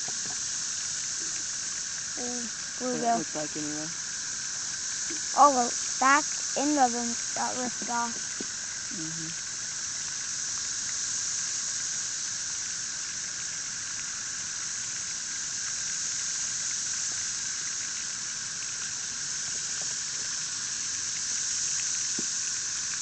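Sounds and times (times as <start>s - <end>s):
cicadas droning: 0.0s - 23.0s.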